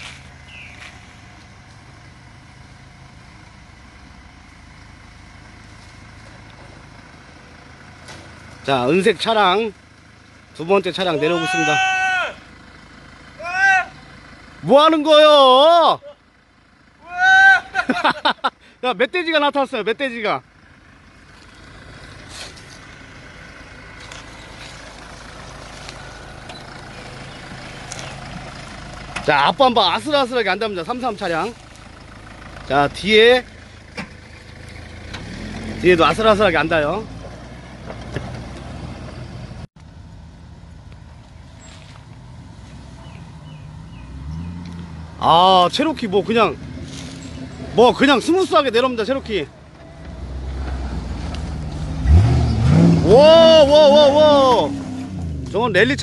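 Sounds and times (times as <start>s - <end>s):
car engine running low: 0.0s - 56.0s.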